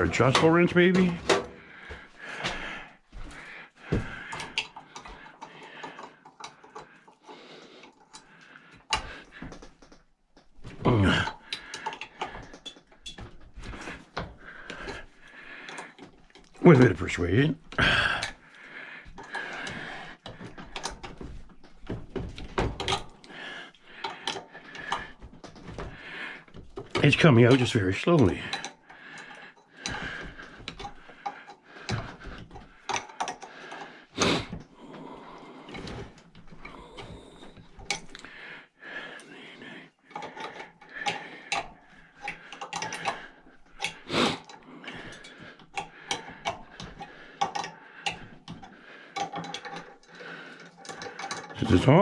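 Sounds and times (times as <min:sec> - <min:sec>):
small metal clicks and knocks: 0:03.2 - 0:34.7, 0:35.3 - 0:38.4, 0:40.0 - 0:52.0.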